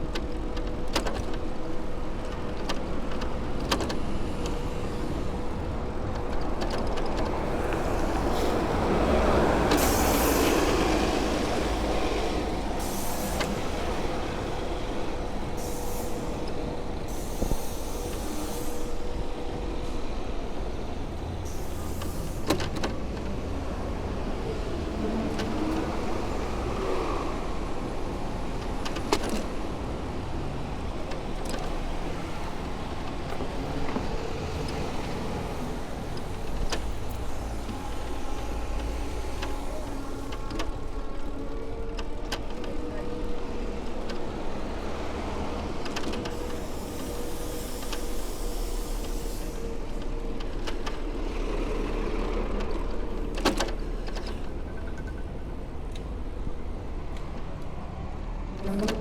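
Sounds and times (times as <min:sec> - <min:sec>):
road and vehicle rumble: 0:00.0 - 0:59.0.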